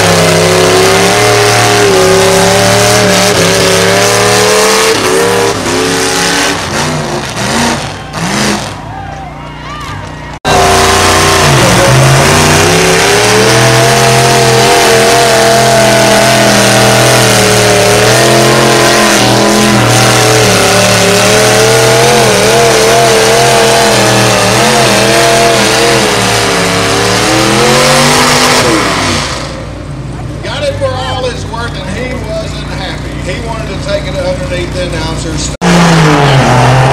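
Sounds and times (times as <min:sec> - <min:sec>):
pulling engine running flat out: 0:00.0 - 0:36.9.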